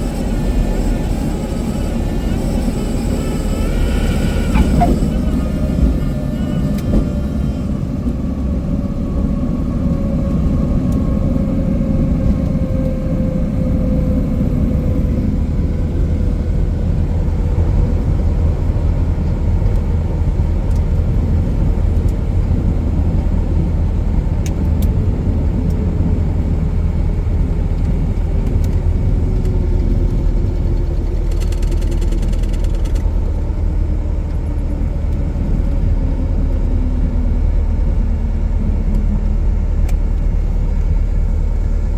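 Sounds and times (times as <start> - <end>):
airplane engine and propeller droning: 0.0 - 41.9.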